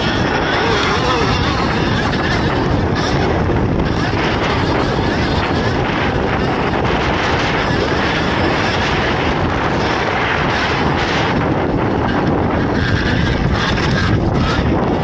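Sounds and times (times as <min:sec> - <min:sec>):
motorbike riding noise: 0:00.0 - 0:15.0
wind rushing on microphone: 0:00.0 - 0:15.0.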